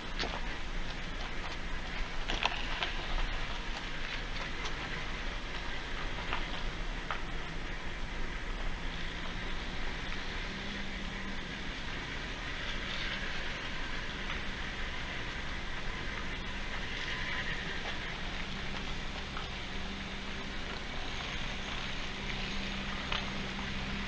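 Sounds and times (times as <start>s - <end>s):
faint constant tone: 0.0s - 24.0s
low engine hum: 0.0s - 24.0s.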